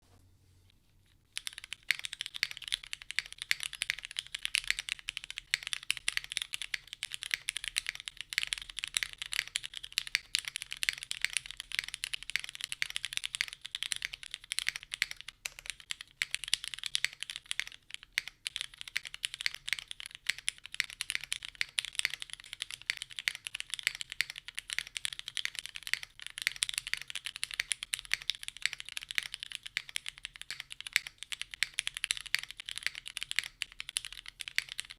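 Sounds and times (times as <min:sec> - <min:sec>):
mechanical keyboard typing: 0:01.4 - 0:34.9.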